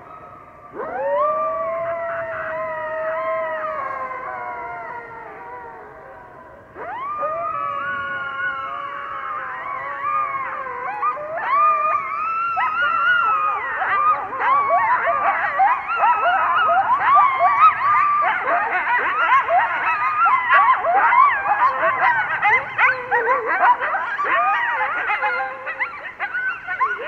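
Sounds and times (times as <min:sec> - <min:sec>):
coyotes howling and yipping: 0:00.0 - 0:27.0.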